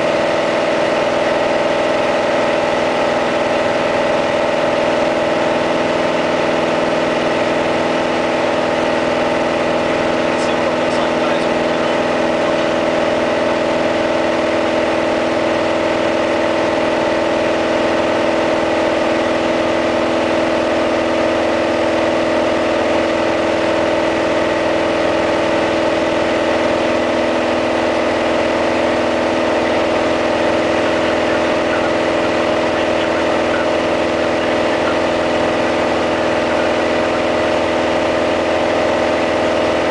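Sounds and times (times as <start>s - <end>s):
airplane engine droning in cabin: 0.0s - 39.9s.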